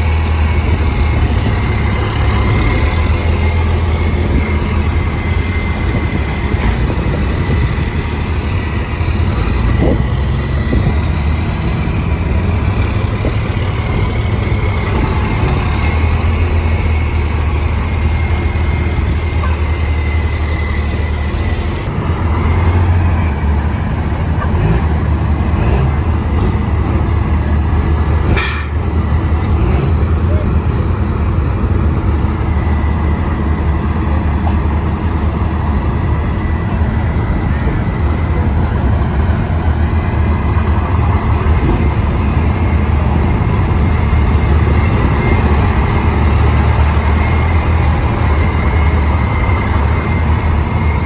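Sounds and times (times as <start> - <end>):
diesel truck engines rumbling: 0.0 - 51.0.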